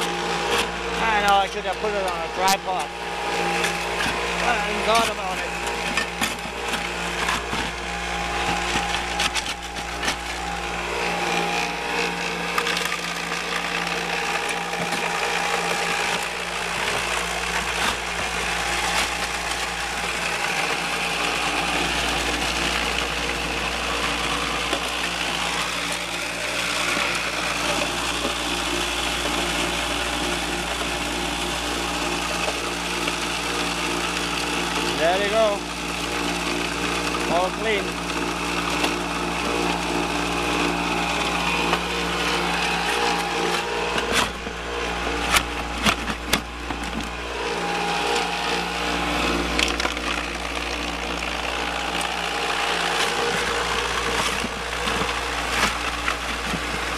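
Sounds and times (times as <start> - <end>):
motor humming: 0.0 - 56.9.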